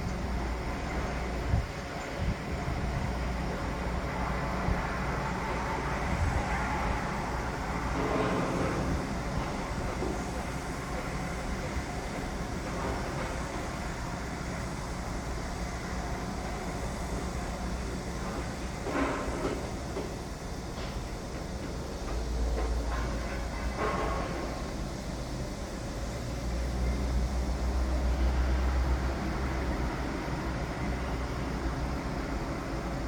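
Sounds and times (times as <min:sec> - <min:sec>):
machinery rumble: 0:00.0 - 0:33.0.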